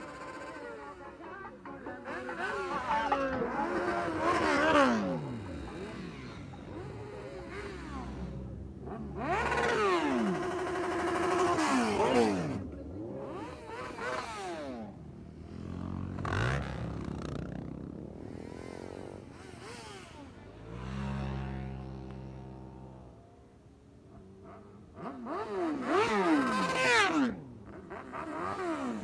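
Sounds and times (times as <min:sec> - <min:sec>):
motorcycles revving past: 0:00.0 - 0:23.4, 0:24.2 - 0:29.0.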